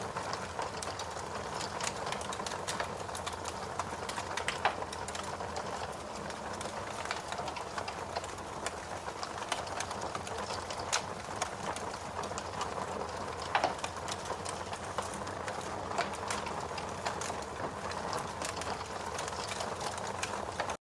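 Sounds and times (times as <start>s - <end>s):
rain hiss: 0.0s - 20.8s
wood fire crackling and popping: 0.0s - 20.8s.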